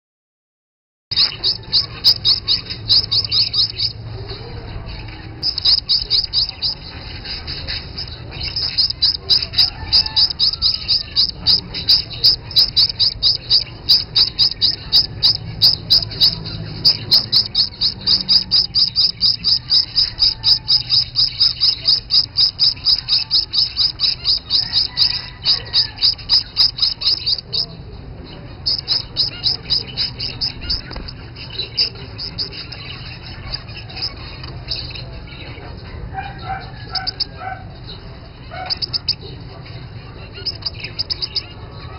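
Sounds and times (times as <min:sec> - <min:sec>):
fledglings high begging chirps: 0:01.1 - 0:41.9
soft finch calls: 0:01.1 - 0:41.9.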